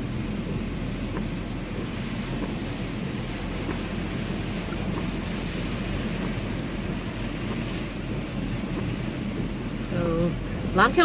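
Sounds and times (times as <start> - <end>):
rain: 0.0 - 11.0
vehicle engine and tyre rumble: 0.0 - 11.0.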